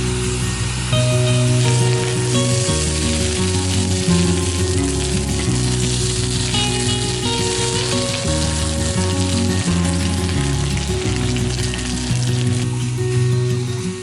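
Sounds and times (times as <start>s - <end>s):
meat sizzling: 0.0s - 13.7s
instrumental background music: 0.0s - 14.0s.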